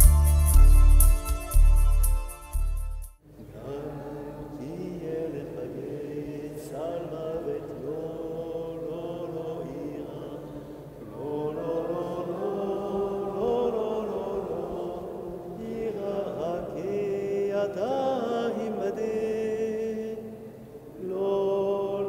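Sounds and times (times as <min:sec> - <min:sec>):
chanted vocal music: 0:03.3 - 0:22.0.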